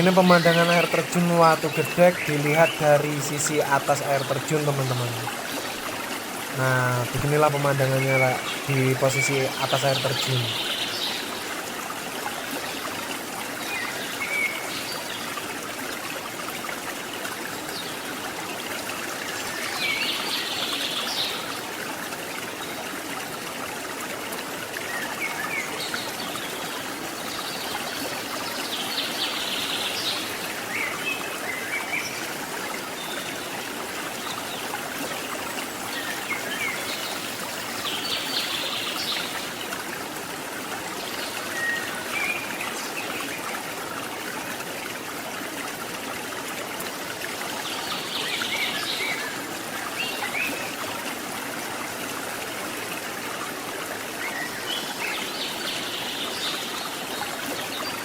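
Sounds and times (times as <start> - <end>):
river water over waterfall: 0.0 - 58.0.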